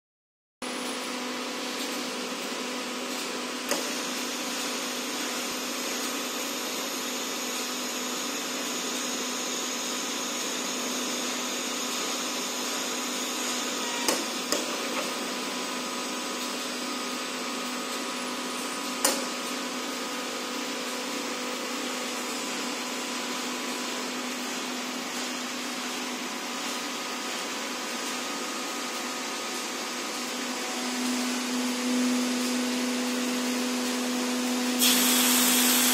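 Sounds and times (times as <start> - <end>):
machinery hum and whine: 0.6 - 35.9.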